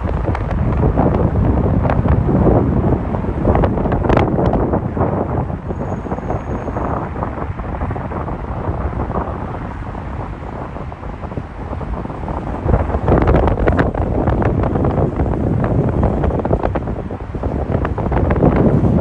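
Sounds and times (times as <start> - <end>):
low steady rumble: 0.0 - 19.0
wind buffeting microphone: 0.0 - 19.0.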